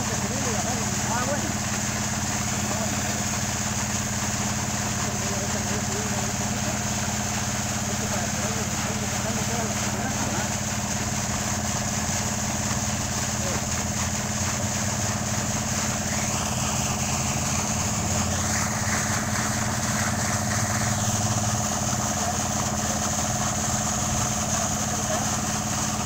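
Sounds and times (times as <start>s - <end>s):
engine running: 0.0s - 26.0s
water pouring from pipe: 0.0s - 26.0s.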